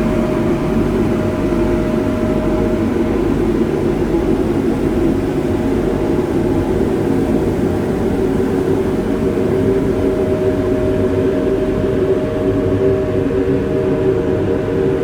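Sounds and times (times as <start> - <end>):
street sweeper machine drone: 0.0 - 15.0.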